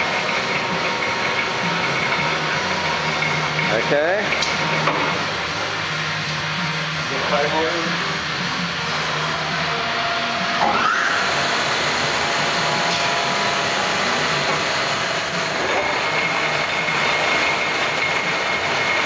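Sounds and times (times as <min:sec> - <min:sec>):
lathe running with high whine: 0:00.0 - 0:19.0
machine shop hum: 0:00.0 - 0:19.0.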